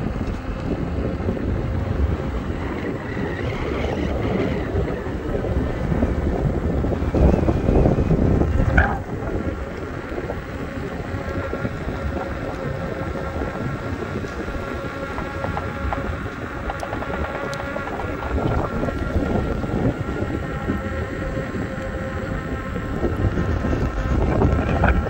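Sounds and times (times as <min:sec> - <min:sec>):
electric motor whine: 0:00.0 - 0:25.0
wind buffeting microphone: 0:00.0 - 0:25.0.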